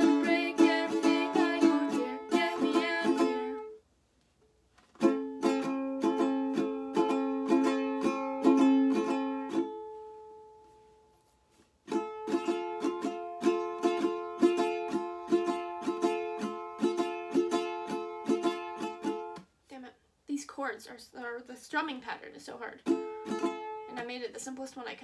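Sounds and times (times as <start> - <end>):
ukulele strumming: 0.0 - 3.8, 4.8 - 19.5, 22.5 - 24.2.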